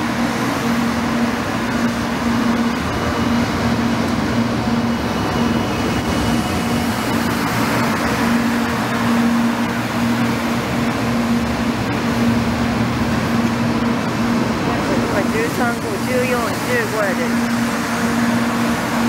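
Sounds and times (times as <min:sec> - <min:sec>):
steady hum: 0:00.0 - 0:19.0
train rolling past: 0:00.0 - 0:19.0.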